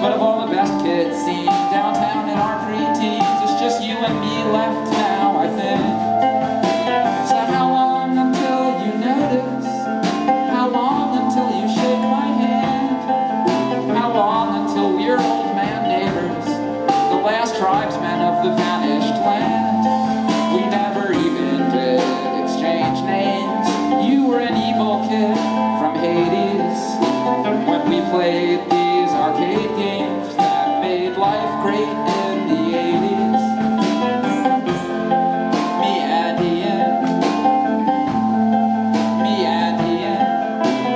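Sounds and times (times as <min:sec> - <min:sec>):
bass guitar: 0:00.0 - 0:40.9
drum kit: 0:00.0 - 0:40.9
melodic line: 0:00.0 - 0:40.9
strummed guitar: 0:00.0 - 0:40.9.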